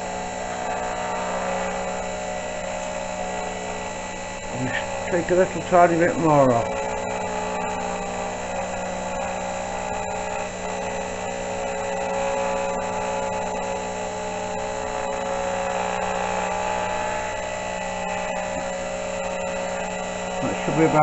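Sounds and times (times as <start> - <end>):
milling machine whine: 0.0 - 21.0.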